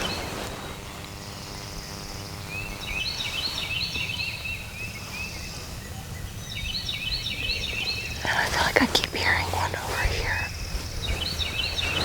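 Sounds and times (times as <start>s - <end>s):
faint steady hum: 0.0s - 12.0s
songbirds chirping: 0.0s - 12.0s.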